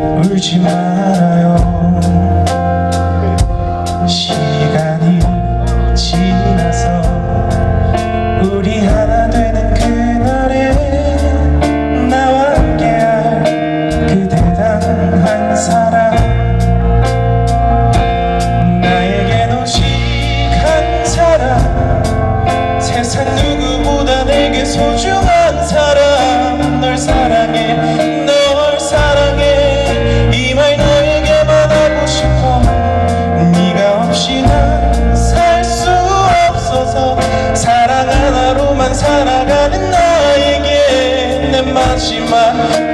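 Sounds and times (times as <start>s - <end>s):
man singing with rock band: 0.0s - 17.1s, 17.8s - 42.9s
electric guitar: 0.0s - 42.9s
keyboard: 0.0s - 42.9s.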